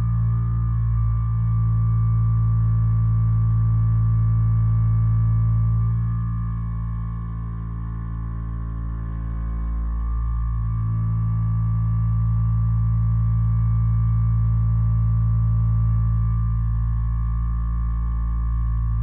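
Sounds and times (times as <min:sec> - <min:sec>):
vibrating roller deep hum: 0:00.0 - 0:19.0.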